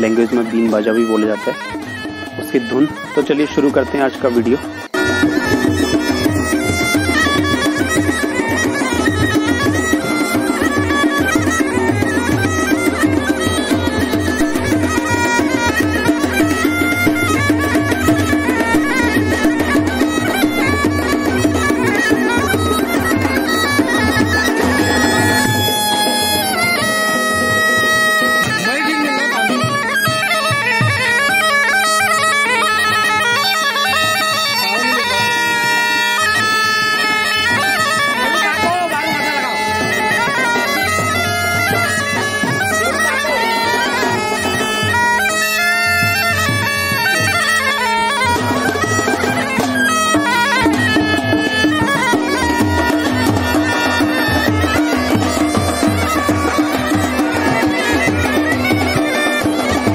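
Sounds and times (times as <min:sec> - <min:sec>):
bagpipe playing a folk tune: 0:00.0 - 0:59.9.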